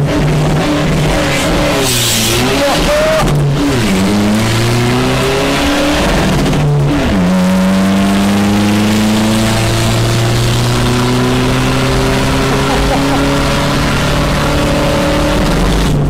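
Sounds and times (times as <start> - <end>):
truck engine accelerating: 0.0 - 16.0.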